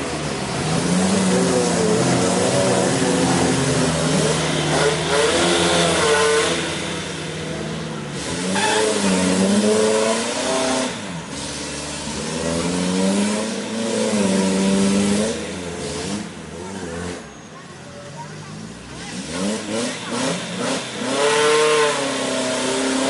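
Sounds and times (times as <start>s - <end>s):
jeep engine revving: 0.0s - 17.2s, 18.5s - 23.0s.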